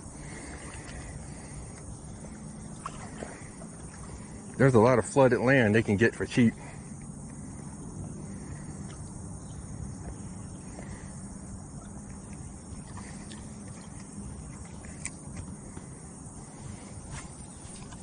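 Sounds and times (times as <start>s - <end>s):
insects chirring: 0.0s - 18.0s
low steady hum: 0.0s - 18.0s.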